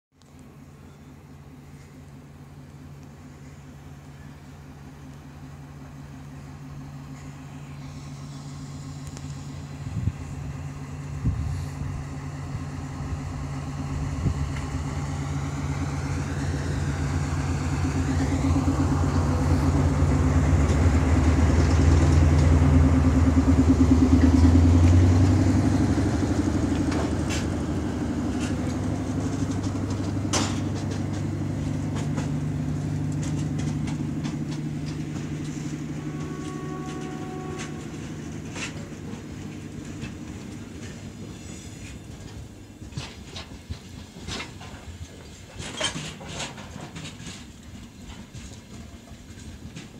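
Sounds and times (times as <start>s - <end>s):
diesel train engine passing: 0.2s - 49.9s.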